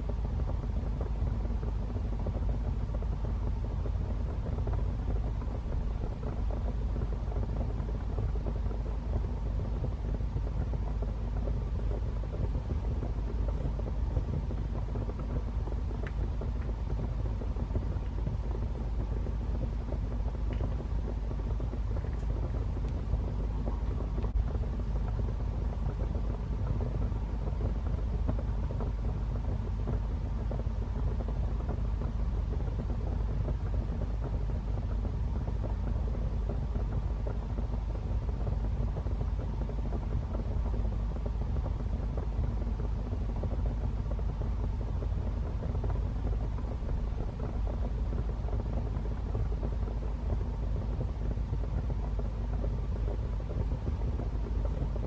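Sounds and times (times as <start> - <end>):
fire crackling in fireplace: 0.0 - 55.0.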